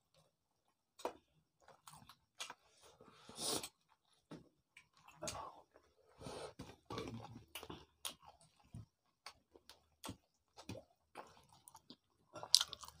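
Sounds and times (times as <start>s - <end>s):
people chewing and lip smacking: 0.1s - 13.0s.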